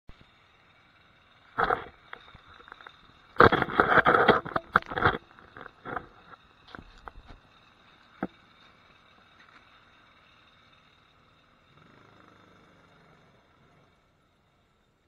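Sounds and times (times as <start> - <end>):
faint small engine running: 0.1 - 15.0.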